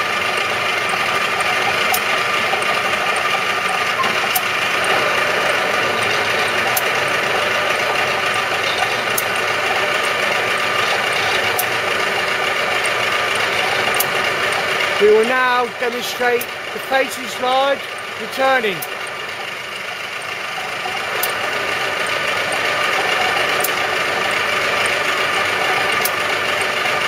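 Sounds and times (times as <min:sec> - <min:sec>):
machine gear drive drone: 0:00.0 - 0:27.0.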